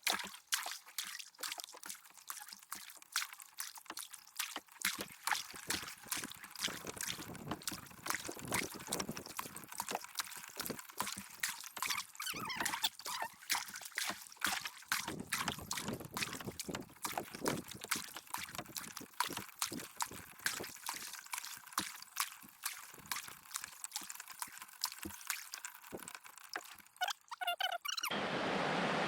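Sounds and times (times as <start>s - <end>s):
water splashing over rocks: 0.0s - 27.0s.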